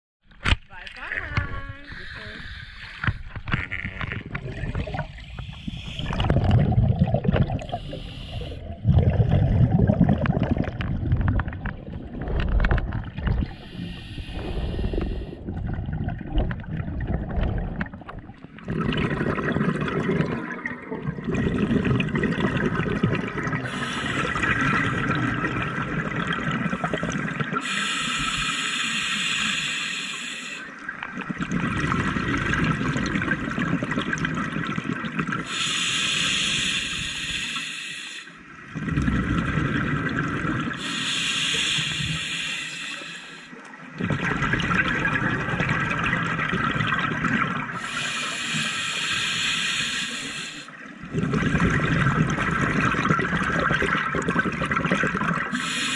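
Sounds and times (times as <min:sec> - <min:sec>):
underwater breathing bubbles: 0:01.7 - 0:55.9.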